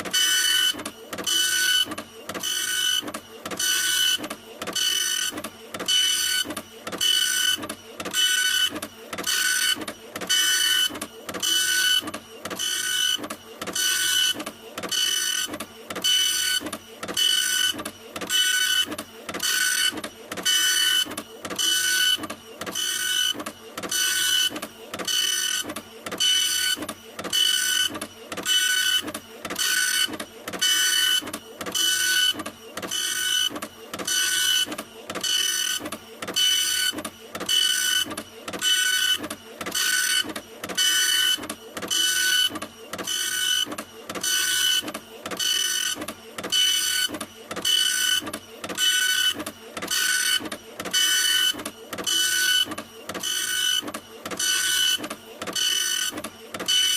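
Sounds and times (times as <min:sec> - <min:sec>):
printer running: 0:00.0 - 0:56.9.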